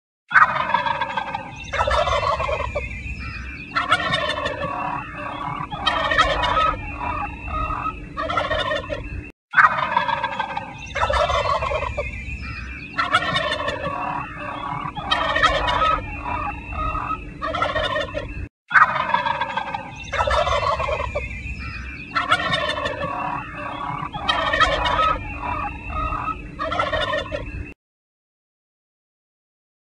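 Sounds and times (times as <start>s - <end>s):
turkey gobbling: 0.3s - 27.7s.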